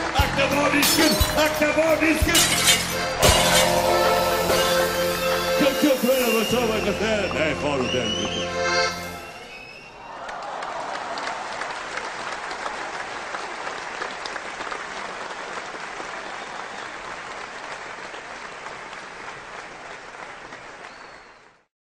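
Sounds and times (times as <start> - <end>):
large crowd applauding: 0.0 - 2.3, 3.7 - 8.6, 9.2 - 21.7.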